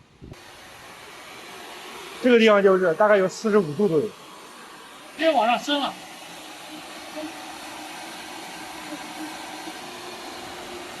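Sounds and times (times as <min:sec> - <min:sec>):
fan rushing hiss: 0:00.0 - 0:11.0.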